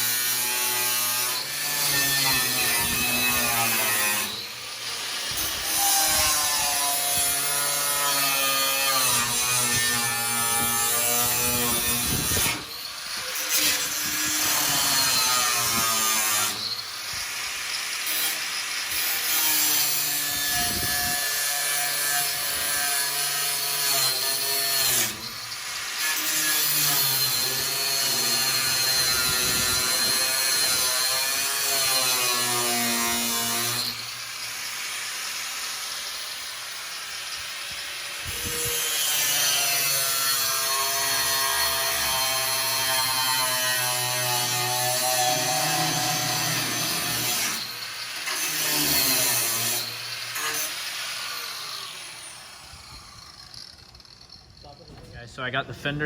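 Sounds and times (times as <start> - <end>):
grinder cutting sheet metal: 0.0 - 56.0.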